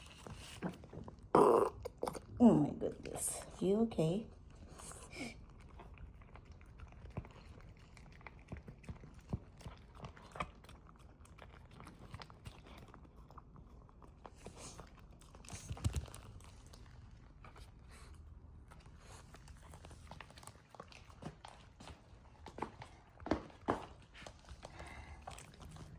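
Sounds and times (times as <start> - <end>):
puppy chewing food: 0.0 - 25.9.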